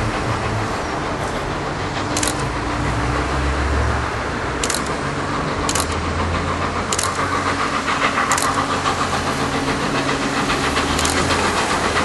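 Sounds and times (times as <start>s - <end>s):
distant steam locomotive: 0.0s - 12.0s.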